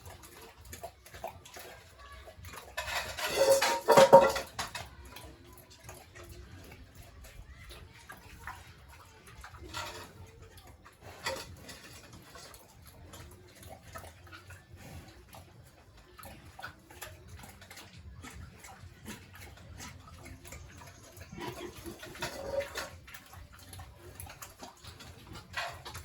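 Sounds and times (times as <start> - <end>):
pigs grunting: 0.0 - 26.0.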